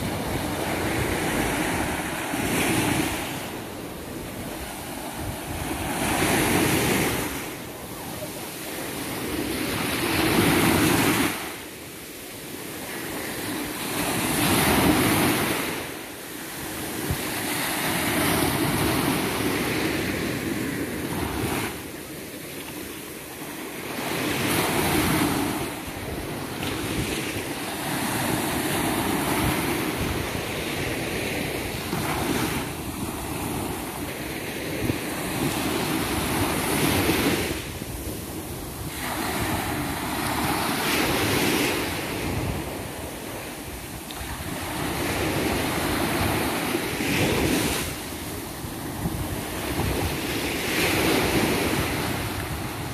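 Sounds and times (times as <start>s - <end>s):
waves breaking on sandy beach: 0.0s - 52.9s.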